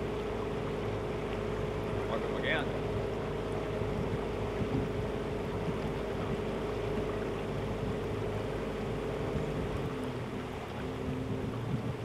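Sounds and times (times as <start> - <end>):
outboard motor running: 0.0 - 12.0
water and wind noise: 0.0 - 12.0.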